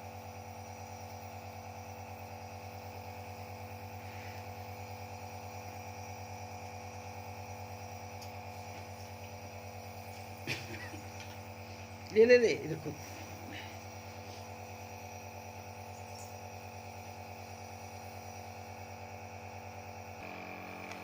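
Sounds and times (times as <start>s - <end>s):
nebulizer compressor humming: 0.0s - 21.0s.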